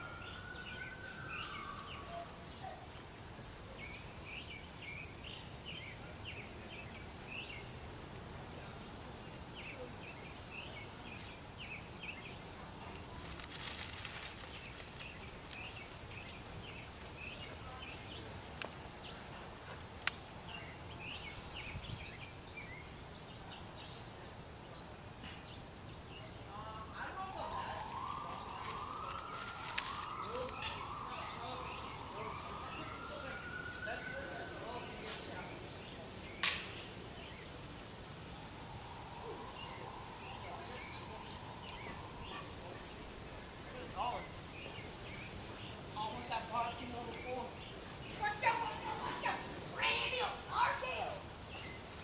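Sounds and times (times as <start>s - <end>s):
dry leaves crackling: 0.0s - 52.0s
small birds chirping: 0.0s - 52.0s.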